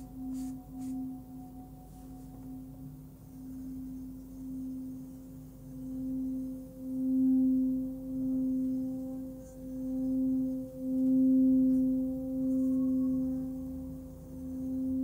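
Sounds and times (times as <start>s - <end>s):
singing bowl humming: 0.0s - 15.0s.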